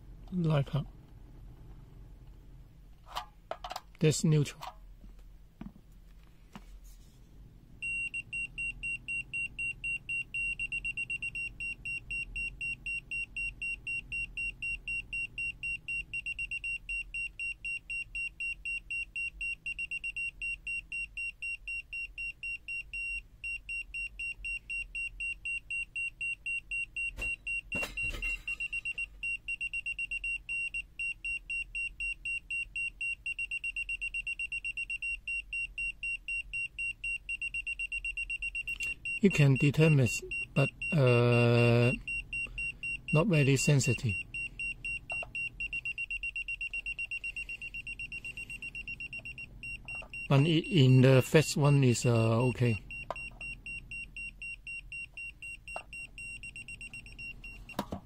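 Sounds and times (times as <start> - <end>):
fast high-pitched beeps: 7.8 - 27.8, 28.5 - 57.8.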